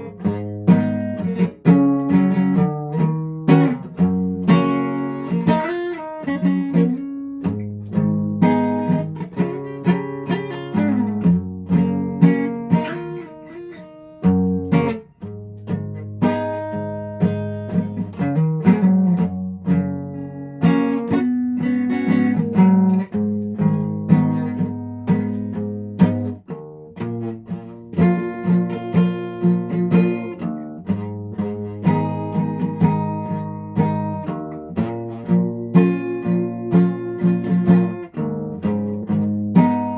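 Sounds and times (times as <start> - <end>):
guitar chords strummed: 0.0 - 39.9.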